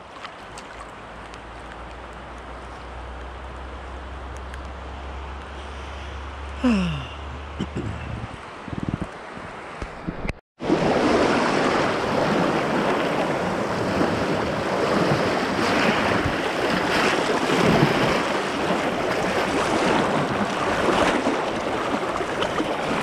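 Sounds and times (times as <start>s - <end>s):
rushing river water: 0.0s - 23.0s.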